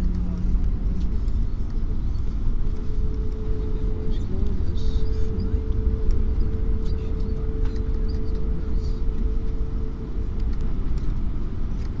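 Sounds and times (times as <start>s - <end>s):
low rumble of aircraft cabin: 0.0s - 12.0s
thin steady hum: 0.0s - 12.0s.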